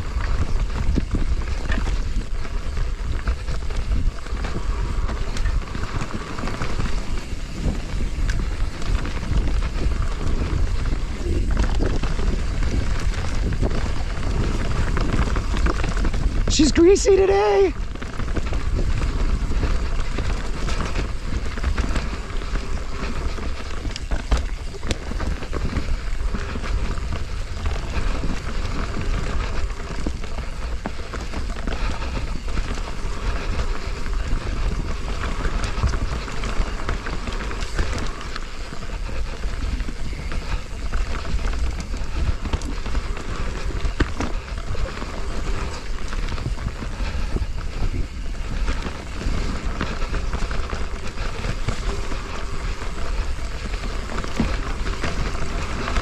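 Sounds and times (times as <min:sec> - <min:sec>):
bike clattering over bumps: 0:00.0 - 0:16.5, 0:17.8 - 0:56.0
bike tyres rolling on dirt: 0:00.0 - 0:56.0
wind buffeting microphone: 0:00.0 - 0:56.0.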